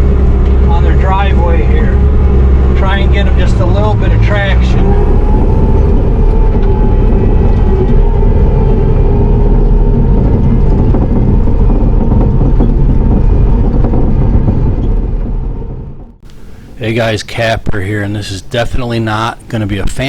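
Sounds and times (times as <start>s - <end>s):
diesel engine rumble: 0.0s - 20.0s
faint steady whine: 0.0s - 20.0s.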